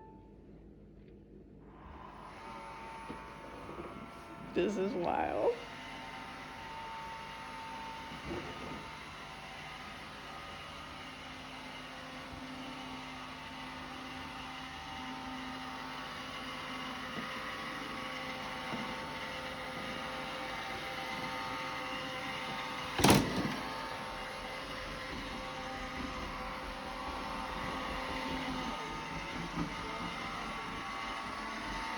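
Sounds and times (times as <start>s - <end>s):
robot vacuum motors and brushes whirring: 1.7s - 31.9s.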